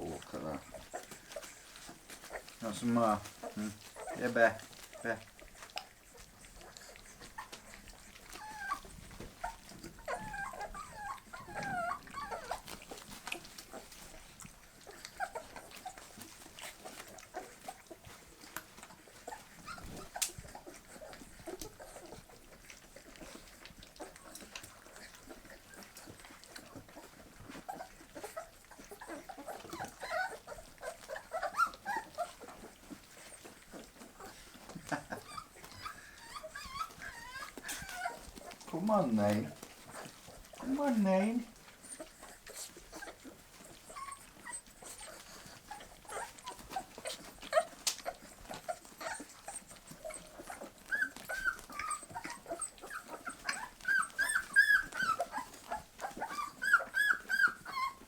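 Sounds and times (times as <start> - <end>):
puppies eating food: 0.0 - 58.0
puppies whimpering and squeaking: 0.0 - 58.0.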